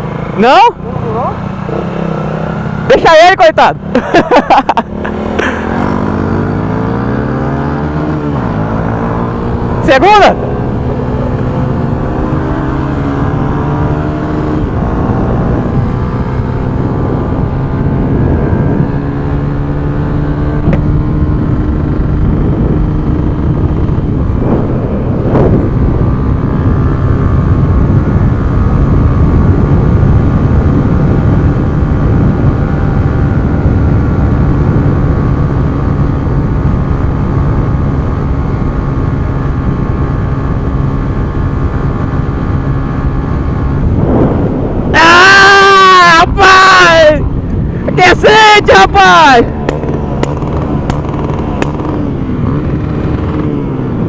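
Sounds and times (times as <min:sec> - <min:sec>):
motorcycle engine running: 0:00.0 - 0:48.1, 0:48.8 - 0:54.0
wind on microphone: 0:05.4 - 0:54.0.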